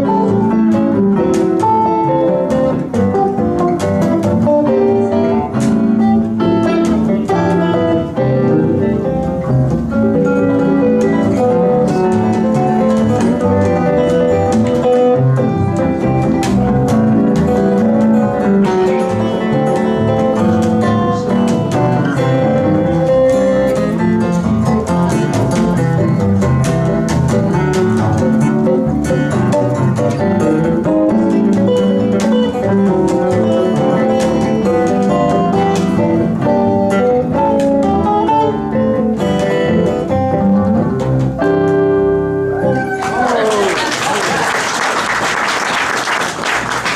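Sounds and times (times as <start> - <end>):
fingerpicked guitars playing: 0.0 - 43.8.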